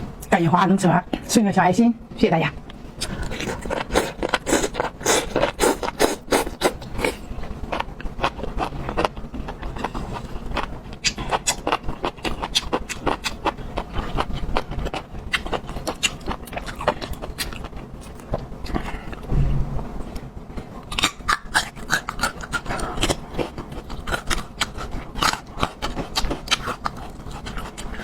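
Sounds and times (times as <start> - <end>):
chewing and crunching food: 3.0 - 19.3, 20.8 - 28.0.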